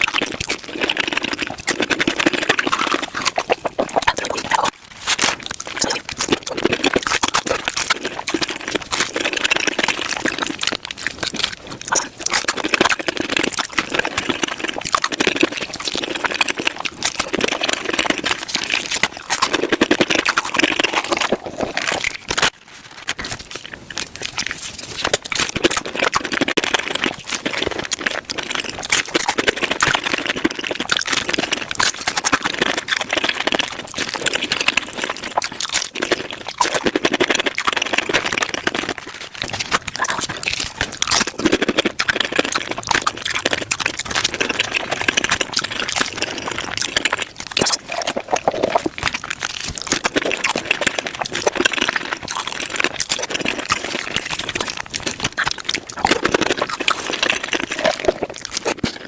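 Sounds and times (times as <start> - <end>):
rapid chewing and mouth smacking: 0.0 - 59.0.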